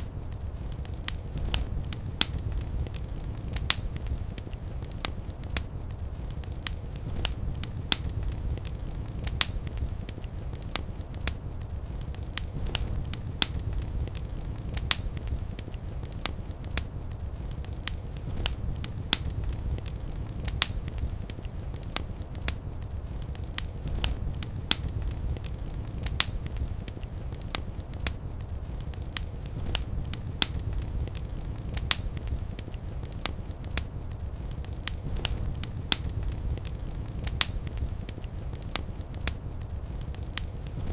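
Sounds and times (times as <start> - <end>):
fireplace fire crackling: 0.0 - 40.9
low rumble of flames: 0.0 - 40.9.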